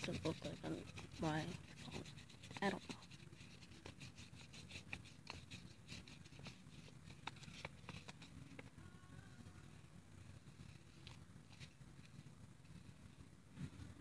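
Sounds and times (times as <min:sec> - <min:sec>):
paintbrush scratching on paper: 0:00.0 - 0:08.7, 0:09.6 - 0:13.2.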